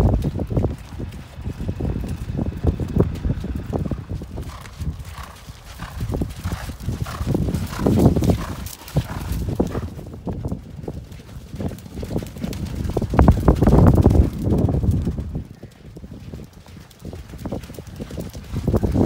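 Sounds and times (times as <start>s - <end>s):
horse hoofbeats clip-clop: 0.0s - 19.0s.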